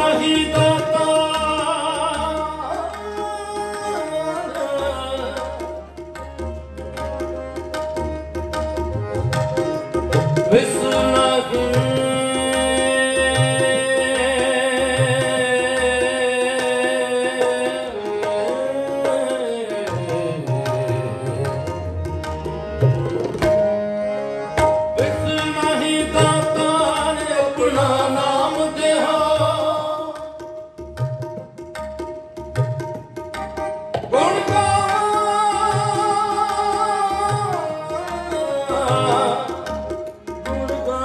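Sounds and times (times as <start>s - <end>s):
harmonium drone: 0.0s - 41.0s
tabla strokes: 0.0s - 41.0s.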